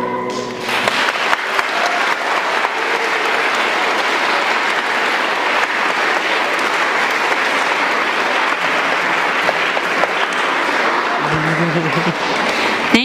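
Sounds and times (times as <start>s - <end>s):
audience applauding: 0.5s - 13.0s.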